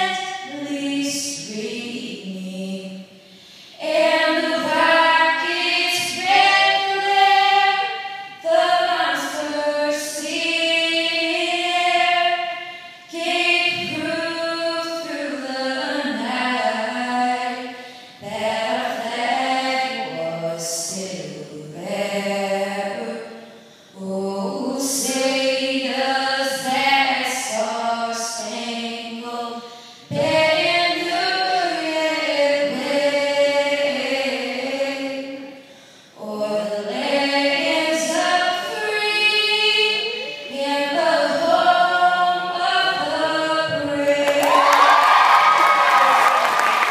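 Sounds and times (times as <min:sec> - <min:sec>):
person singing an anthem unaccompanied: 0:00.0 - 0:46.9.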